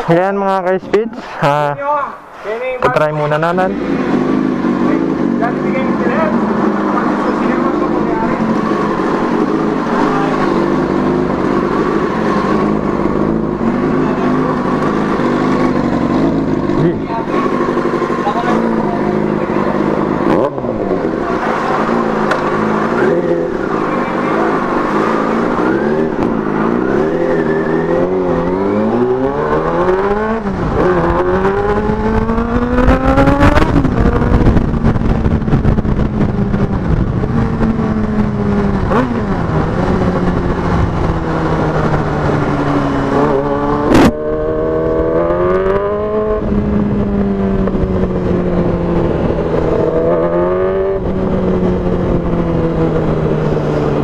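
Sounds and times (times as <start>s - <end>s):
motorcycle engine revving: 3.0s - 54.0s.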